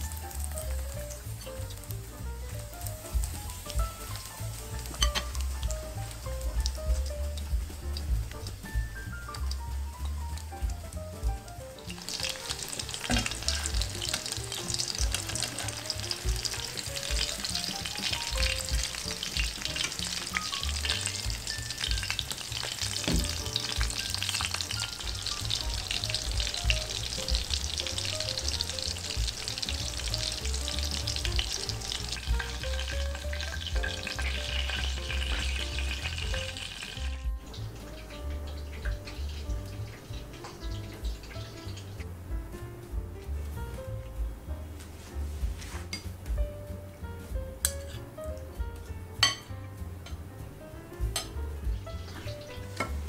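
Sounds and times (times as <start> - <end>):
food sizzling in hot oil: 0.0 - 44.0, 45.4 - 53.0
soft background music: 0.0 - 53.0.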